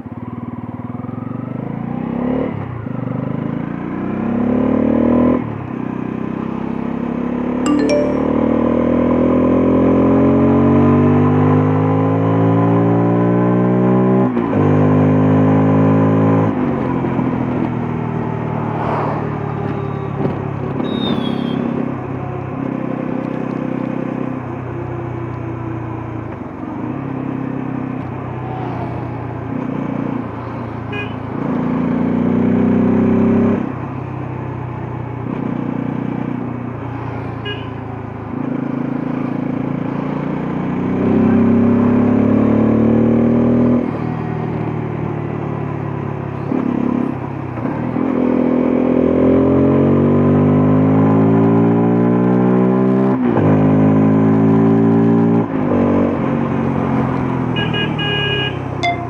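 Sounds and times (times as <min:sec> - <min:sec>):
motorcycle engine accelerating: 0:01.0 - 0:37.3, 0:38.1 - 0:57.8.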